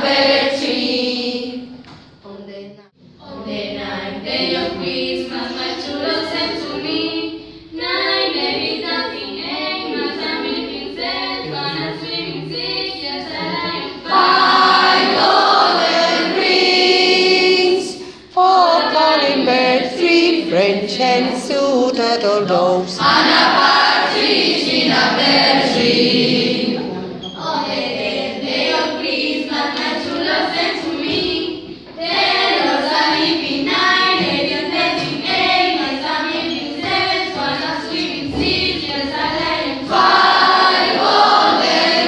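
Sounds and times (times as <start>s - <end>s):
children singing together: 0.0s - 1.8s, 3.0s - 42.0s.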